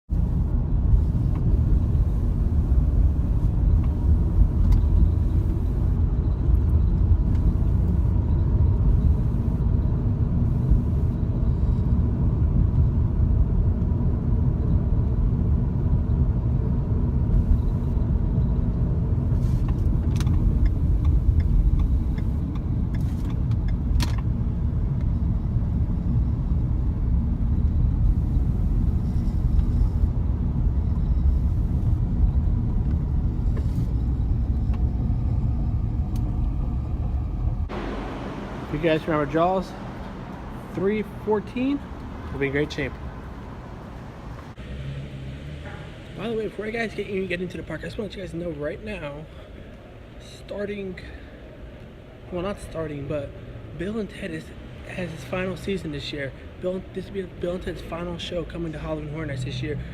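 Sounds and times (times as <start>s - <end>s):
car rumbling in motion: 0.1s - 59.9s.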